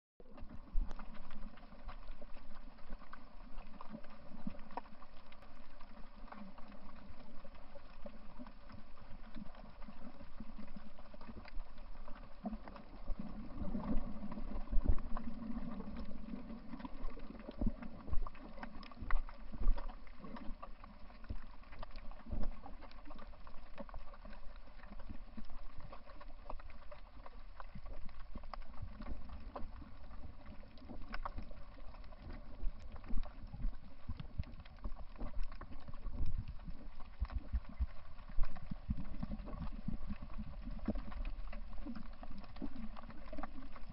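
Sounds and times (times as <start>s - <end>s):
underwater clicks and crackles: 0.2s - 43.9s
underwater water rush: 0.2s - 43.9s.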